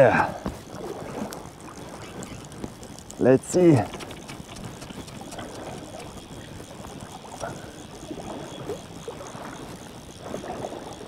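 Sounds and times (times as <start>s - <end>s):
fish splashing water: 0.3s - 11.0s.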